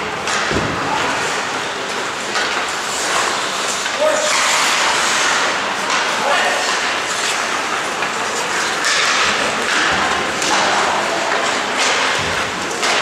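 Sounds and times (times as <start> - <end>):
hockey sticks and puck knocking: 0.2 - 13.0
skates scraping ice: 0.3 - 13.0.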